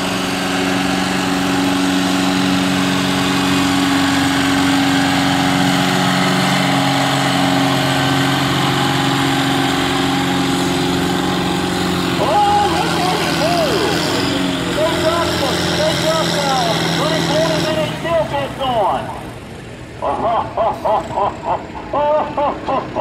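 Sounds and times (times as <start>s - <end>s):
tractor engine under heavy load: 0.0s - 23.0s.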